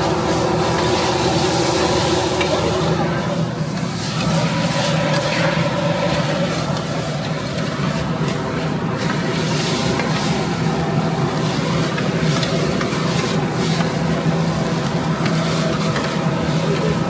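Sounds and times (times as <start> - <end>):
noodles sizzling on griddle: 0.0 - 17.0.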